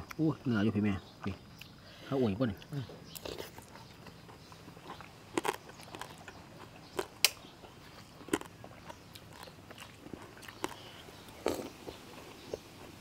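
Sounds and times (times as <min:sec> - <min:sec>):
chewing: 0:02.6 - 0:13.0.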